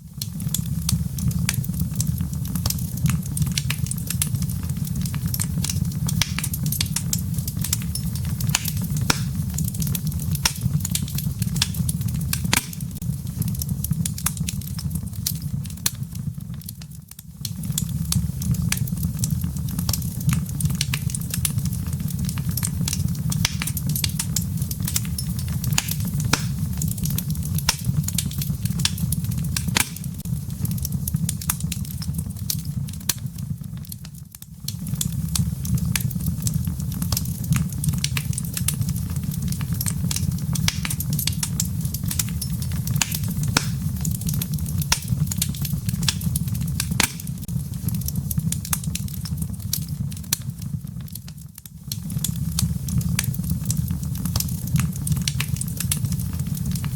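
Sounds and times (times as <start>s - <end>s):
low rumble of flames: 0.0s - 56.9s
wood fire crackling: 0.0s - 56.9s
sharp pops from burning logs: 0.1s - 56.9s.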